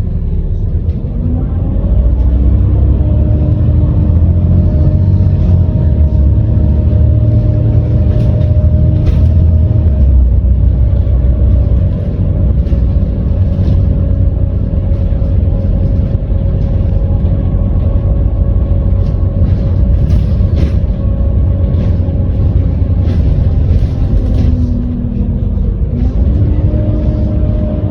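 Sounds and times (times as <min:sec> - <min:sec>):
bus engine rumbling: 0:00.0 - 0:27.9
gearbox whine: 0:01.8 - 0:27.9.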